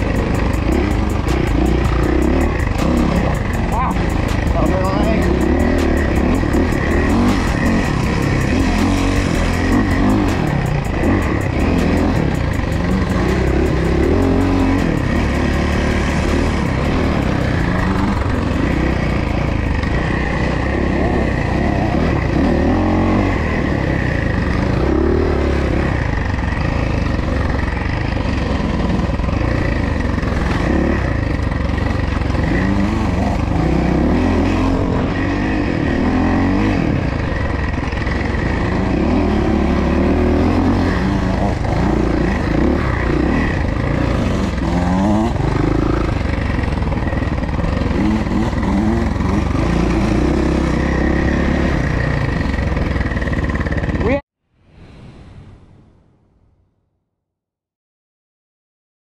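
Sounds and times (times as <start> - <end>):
dirt bike engine revving: 0.0 - 54.2.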